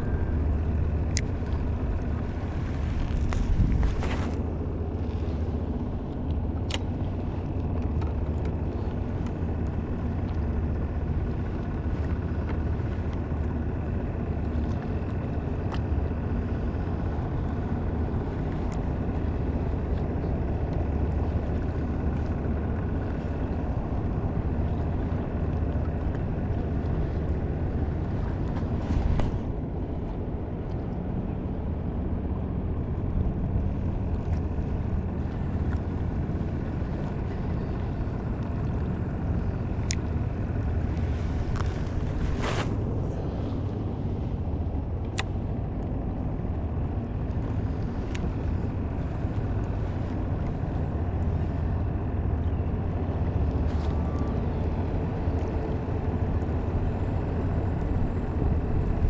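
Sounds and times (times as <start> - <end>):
boat motor running: 0.0 - 59.0.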